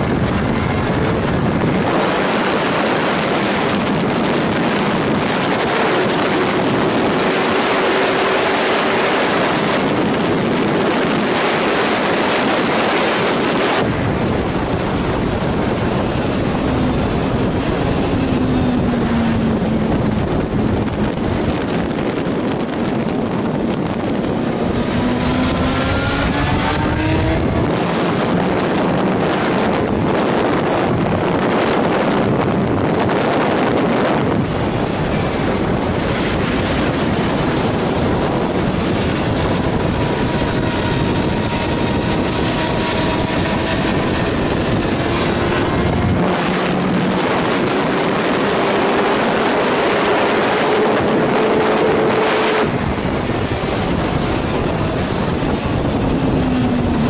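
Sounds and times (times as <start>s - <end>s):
motorcycle engine at speed: 0.0s - 57.0s
wind rush over microphone: 0.0s - 57.0s.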